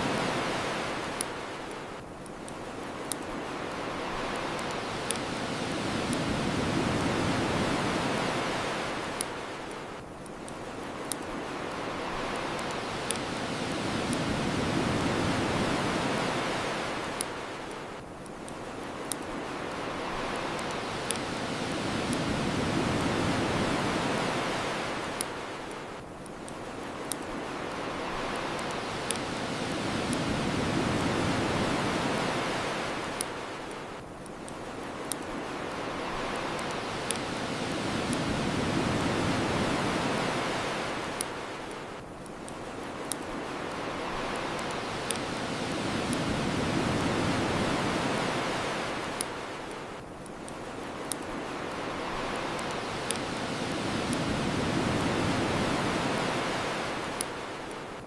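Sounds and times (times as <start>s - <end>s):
bonfire crackling: 0.0s - 57.9s
ocean waves washing on shore: 0.0s - 58.0s.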